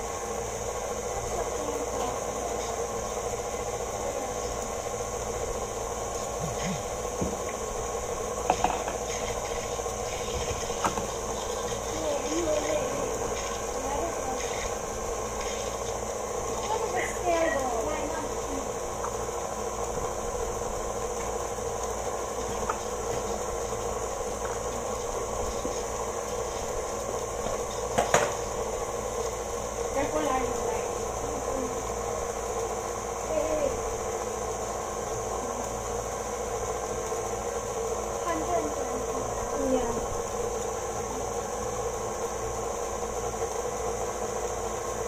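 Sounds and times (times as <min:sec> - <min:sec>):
stand mixer motor humming: 0:00.0 - 0:45.0.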